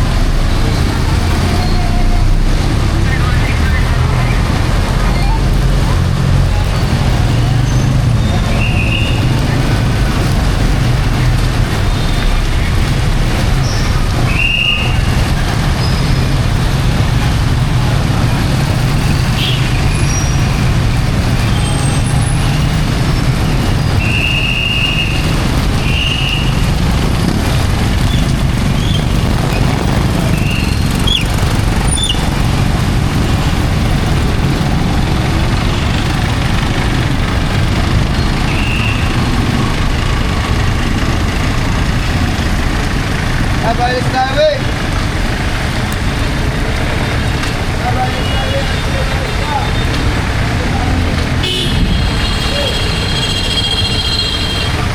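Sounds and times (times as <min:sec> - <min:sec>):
heavy rain: 0:00.0 - 0:54.9
street traffic rumble: 0:00.0 - 0:54.9.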